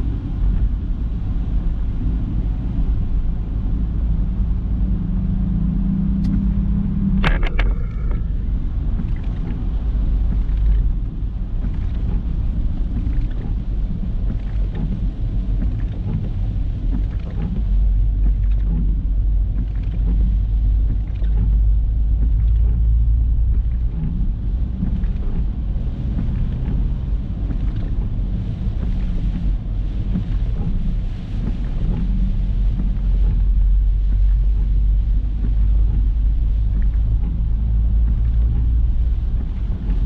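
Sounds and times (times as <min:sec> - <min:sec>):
car engine and tyres rumbling: 0:00.0 - 0:40.0.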